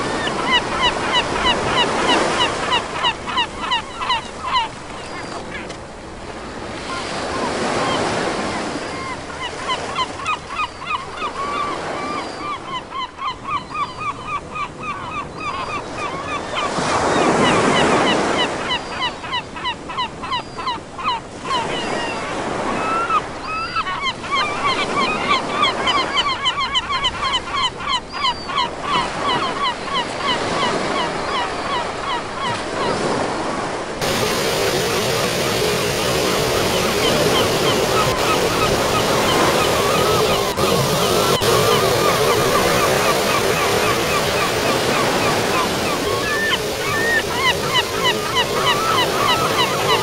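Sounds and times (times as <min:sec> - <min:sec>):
gulls calling: 0:00.0 - 0:05.8, 0:06.7 - 0:50.0
surf waves: 0:00.0 - 0:50.0.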